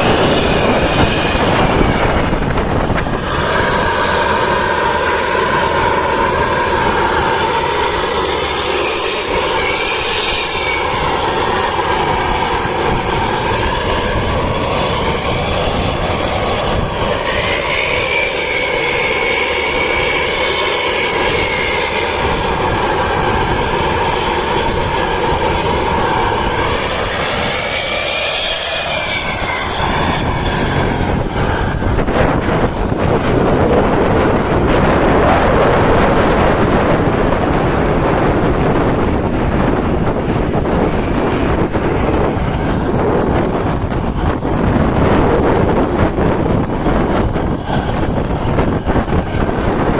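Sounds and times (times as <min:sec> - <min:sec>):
diesel bus engine pulling hard: 0:00.0 - 0:49.9
high whine: 0:00.0 - 0:49.9
loud even rushing noise: 0:00.0 - 0:49.9.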